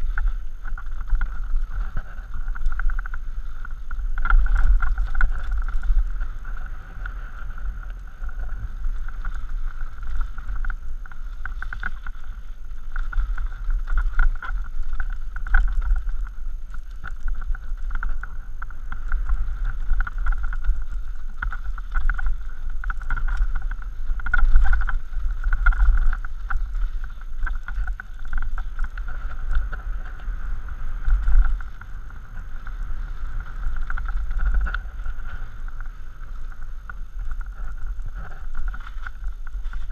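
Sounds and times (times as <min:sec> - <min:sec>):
bike rattling over rough ground: 0:00.0 - 0:39.9
wind buffeting microphone: 0:00.0 - 0:39.9.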